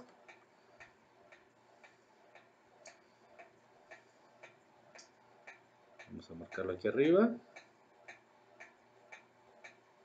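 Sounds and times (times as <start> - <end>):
faint regular ticking: 0.0 - 10.0.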